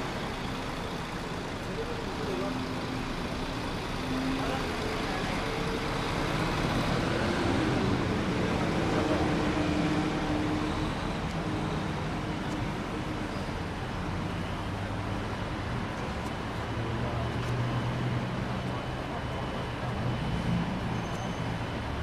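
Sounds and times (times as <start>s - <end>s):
bus motor hum: 0.0s - 22.0s
road traffic noise: 0.0s - 22.0s.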